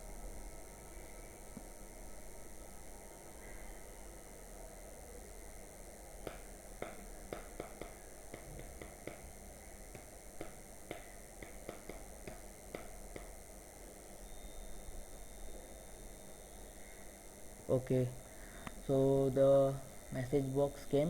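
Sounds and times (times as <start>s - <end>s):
faint steady hum and hiss: 0.0s - 21.0s.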